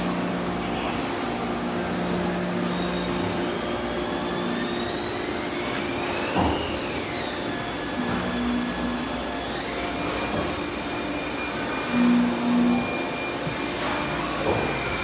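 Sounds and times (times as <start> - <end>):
high machine whine: 0.0 - 15.0.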